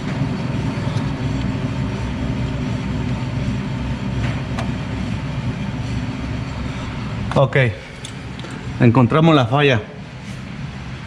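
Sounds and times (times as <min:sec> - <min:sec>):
wheel bearing rumbling: 0:00.0 - 0:09.1.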